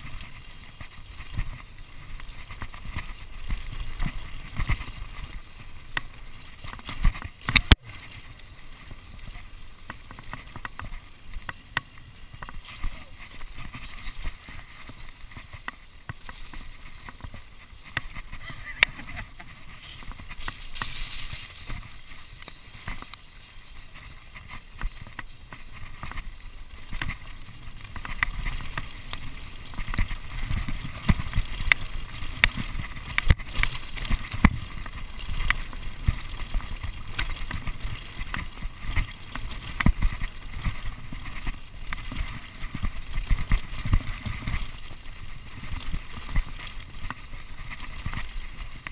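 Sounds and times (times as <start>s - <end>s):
bike knocking and rattling: 0.0s - 48.9s
bike tyres rumbling on dirt: 0.0s - 48.9s.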